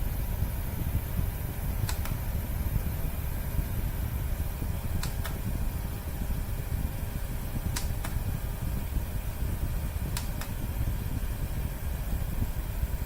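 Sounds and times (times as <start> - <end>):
desk fan whooshing: 0.0 - 13.0.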